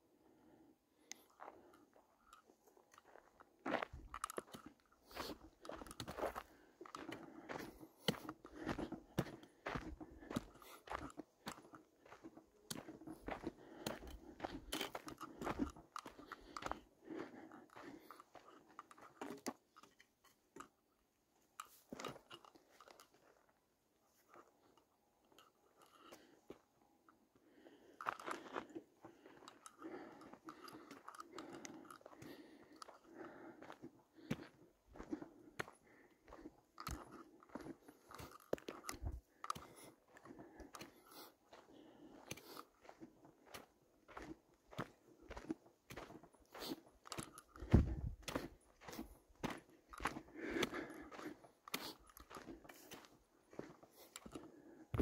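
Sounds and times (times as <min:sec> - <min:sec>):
footsteps crunching on dirt: 0:02.5 - 0:19.6, 0:28.0 - 0:55.0.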